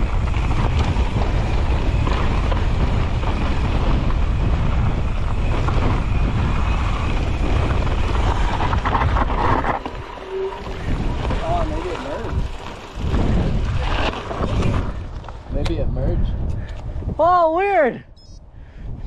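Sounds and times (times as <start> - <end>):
tyres rumbling on dirt and rock: 0.0 - 15.6
wind buffeting microphone: 0.0 - 19.0.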